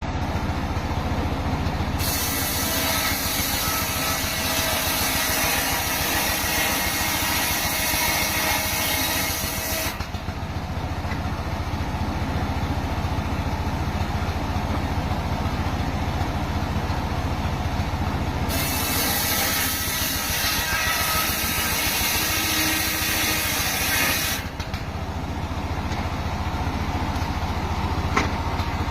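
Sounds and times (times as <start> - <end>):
circular saw running: 2.0 - 28.9.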